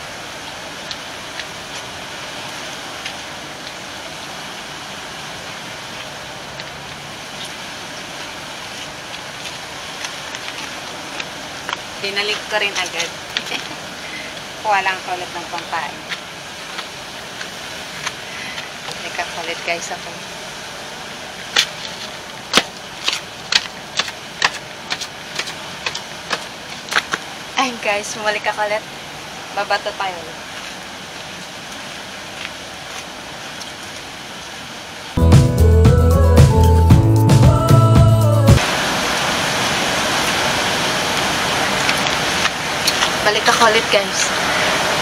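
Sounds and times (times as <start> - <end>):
water rushing over weir: 0.0 - 35.2, 38.6 - 45.0.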